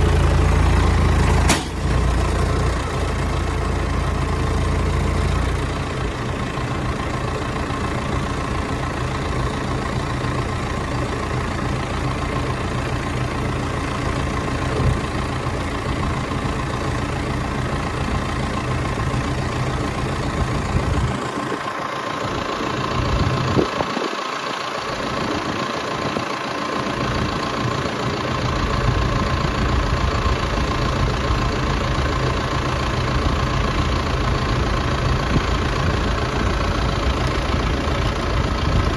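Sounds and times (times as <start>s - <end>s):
faint steady engine whine: 0.0s - 38.9s
vehicle engine running: 0.0s - 38.9s.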